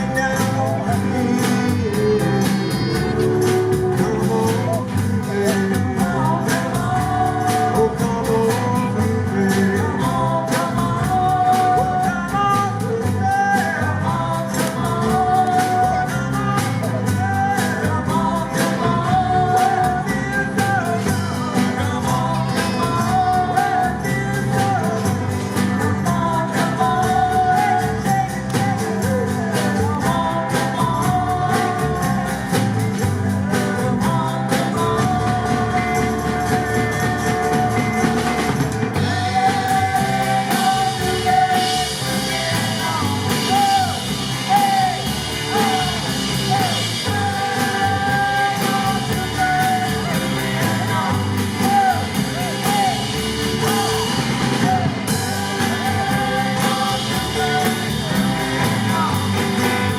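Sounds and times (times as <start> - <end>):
bass guitar: 0.0 - 59.9
drum kit beat: 0.0 - 59.9
electric guitar: 0.0 - 59.9
person singing: 0.0 - 59.9.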